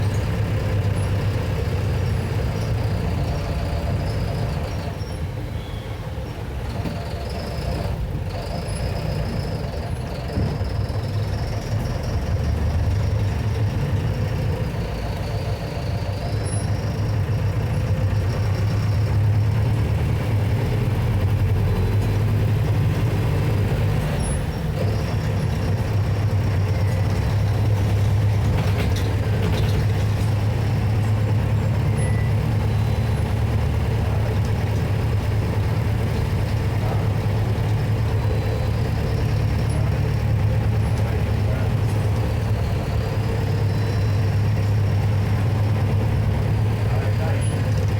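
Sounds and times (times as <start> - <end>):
diesel bus engine droning: 0.0 - 47.9.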